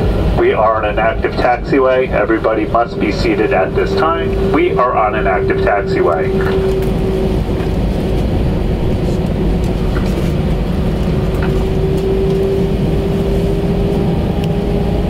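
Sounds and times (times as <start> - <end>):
aircraft cabin rumble: 0.0 - 15.0
steady hum: 0.0 - 15.0.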